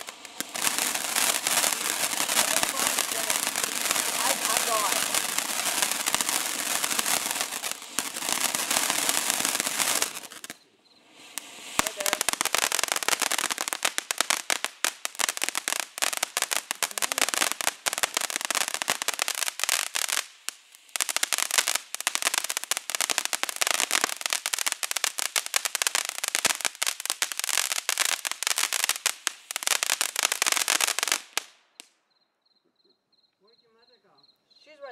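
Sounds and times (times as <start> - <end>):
firework fountain hissing: 0.0 - 31.9
firework crackling: 0.0 - 32.0.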